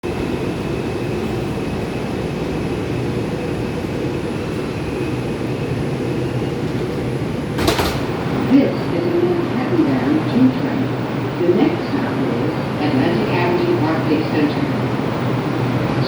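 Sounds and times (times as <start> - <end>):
subway car rumble: 0.0 - 16.0.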